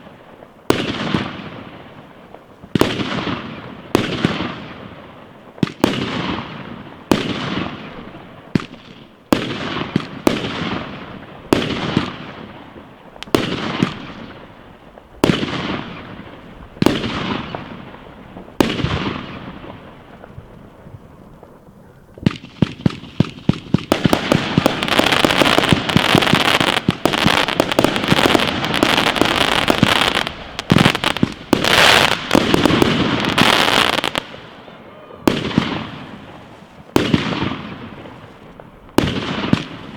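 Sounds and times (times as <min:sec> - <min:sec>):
fireworks bangs: 0:00.0 - 0:39.9
fireworks barrage with crackling: 0:00.0 - 0:39.9.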